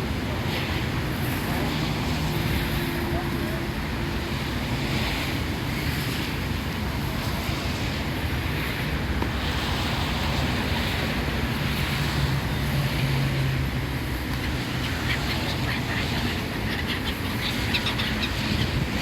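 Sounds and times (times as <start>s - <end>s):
tyres hissing on wet road: 0.0s - 19.0s.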